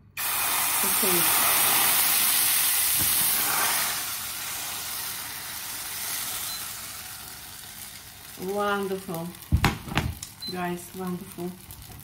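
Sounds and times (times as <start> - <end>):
batter sizzling in hot oil: 0.1 - 12.0.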